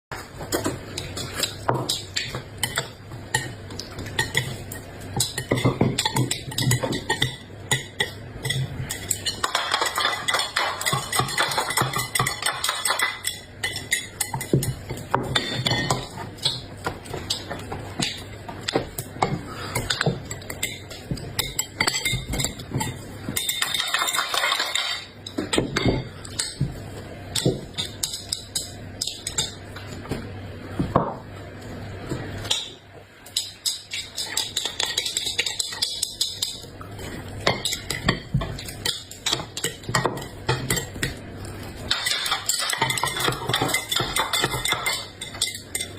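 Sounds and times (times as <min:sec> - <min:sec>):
cutlery clinking against dishes: 0:00.5 - 0:26.6, 0:33.3 - 0:36.7, 0:37.4 - 0:41.2, 0:41.9 - 0:45.9.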